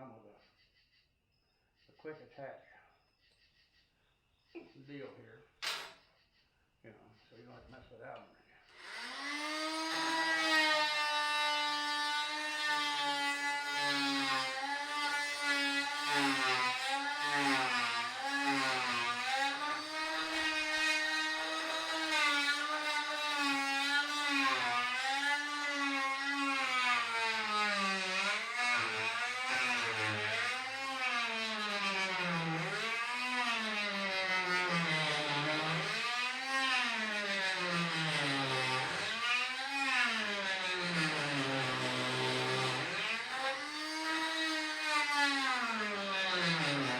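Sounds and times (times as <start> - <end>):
oscillating multi-tool cutting: 8.6 - 46.9.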